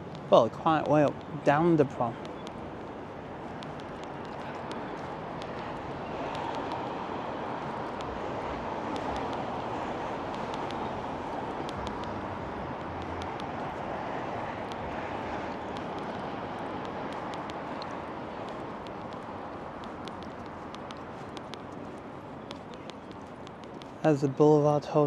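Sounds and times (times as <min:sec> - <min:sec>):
road traffic noise: 0:00.0 - 0:25.0
faint small ticks: 0:02.1 - 0:07.0, 0:07.6 - 0:13.9, 0:14.6 - 0:24.1.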